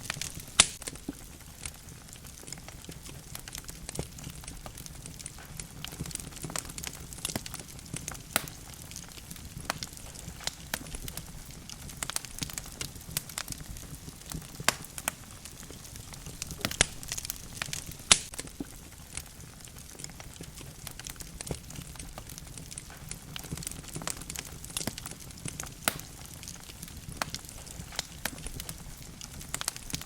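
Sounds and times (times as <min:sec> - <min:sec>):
burning logs popping and snapping: 0:00.0 - 0:30.0
low rumble of flame: 0:00.0 - 0:30.0.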